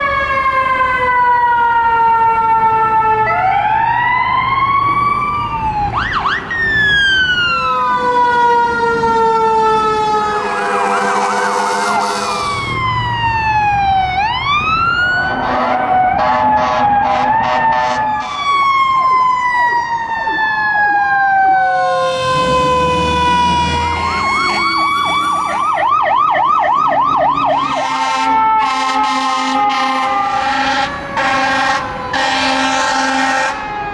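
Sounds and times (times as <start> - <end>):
mechanical siren wailing: 0.0 - 33.9
electronic siren yelping: 3.1 - 33.9.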